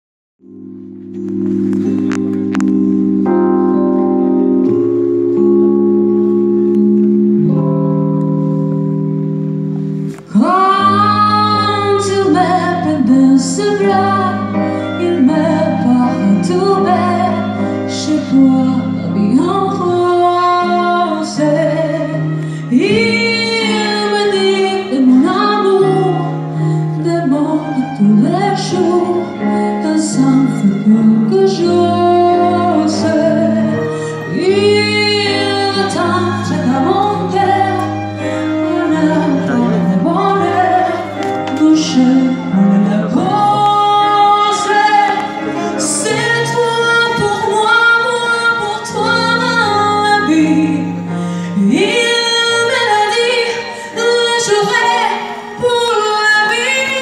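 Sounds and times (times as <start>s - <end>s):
keyboard chords: 0.4s - 57.0s
woman singing with vibrato: 10.3s - 57.0s.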